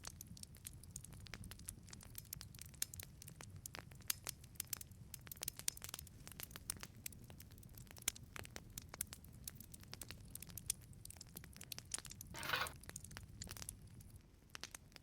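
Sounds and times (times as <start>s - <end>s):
burning wood crackling and popping: 0.0s - 15.0s.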